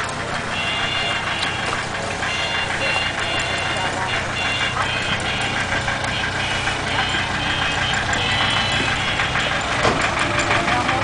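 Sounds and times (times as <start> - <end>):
diesel engine knocking at low revs: 0.0 - 11.0.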